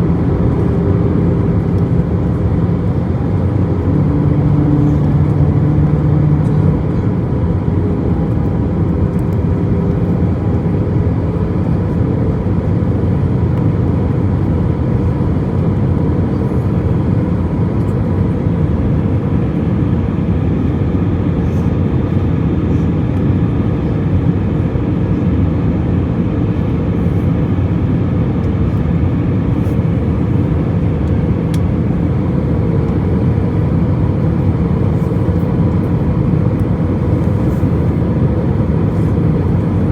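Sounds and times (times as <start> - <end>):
airplane cabin engine rush: 0.0 - 39.9.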